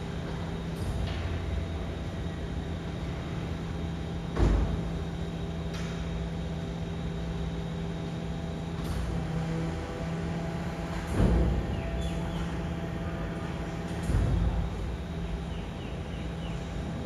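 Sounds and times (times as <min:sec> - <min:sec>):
electric hum with held tones: 0:00.0 - 0:17.0.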